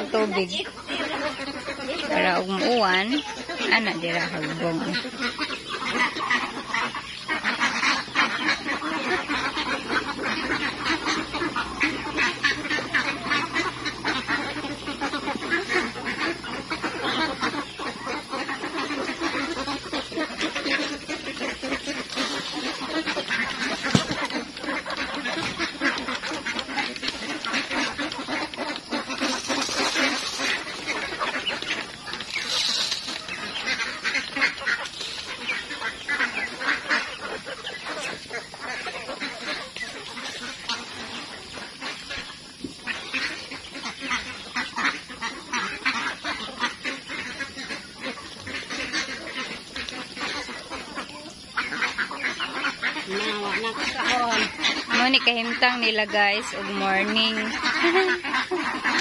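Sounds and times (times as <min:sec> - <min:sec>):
flock of ducks quacking: 0:00.0 - 0:59.0.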